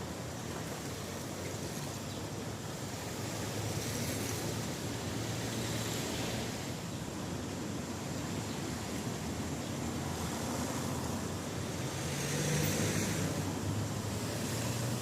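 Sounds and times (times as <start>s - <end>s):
steady rain hiss: 0.0s - 15.0s
vehicle engine hum: 2.7s - 15.0s.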